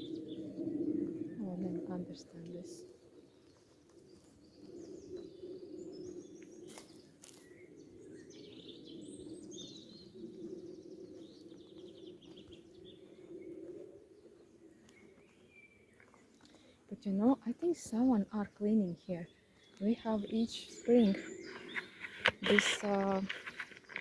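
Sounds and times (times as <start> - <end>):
small birds singing: 0.0 - 24.0.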